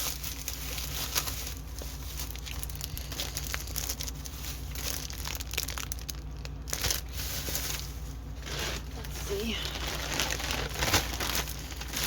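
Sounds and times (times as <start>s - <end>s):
low steady hum: 0.0s - 12.0s
plastic packaging crinkling: 0.0s - 12.0s.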